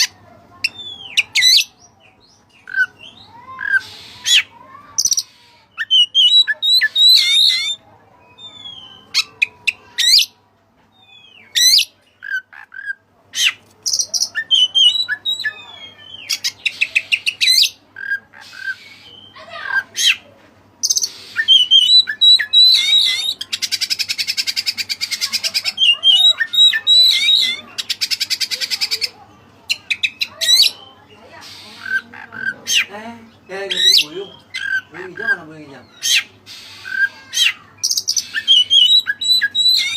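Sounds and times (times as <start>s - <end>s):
bird singing: 0.0s - 20.2s, 20.8s - 39.9s.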